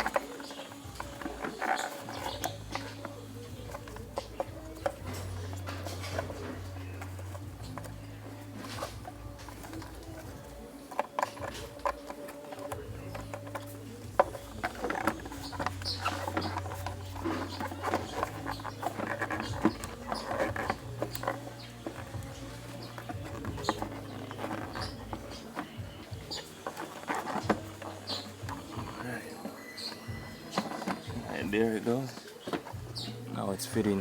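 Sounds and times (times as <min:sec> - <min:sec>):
rubber hose clicking and rubbing: 0:00.0 - 0:34.0
rubber squeaks: 0:00.0 - 0:34.0.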